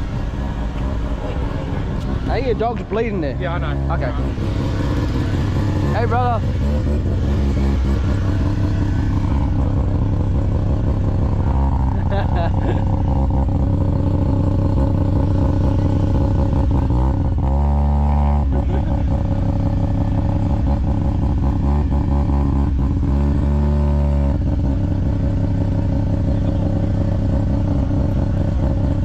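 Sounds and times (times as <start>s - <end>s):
vehicle engine idling and revving: 0.0s - 29.0s.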